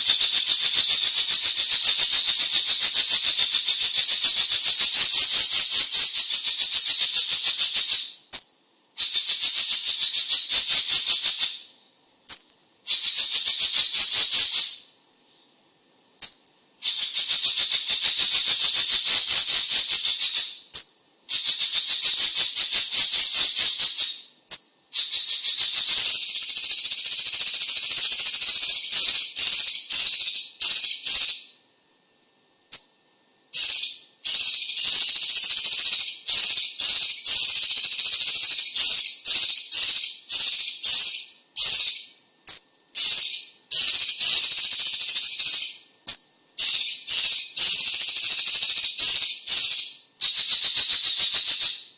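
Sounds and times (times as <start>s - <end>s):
songbird chattering calls: 0.0s - 11.7s, 12.3s - 14.8s, 16.2s - 31.6s, 32.7s - 51.9s.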